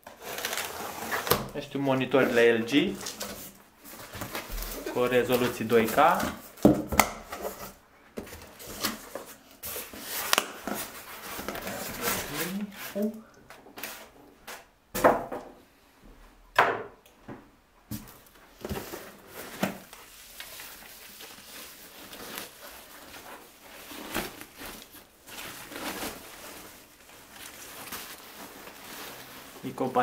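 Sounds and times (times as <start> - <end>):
foam and plastic rustling: 0.0 - 13.2, 18.0 - 30.0.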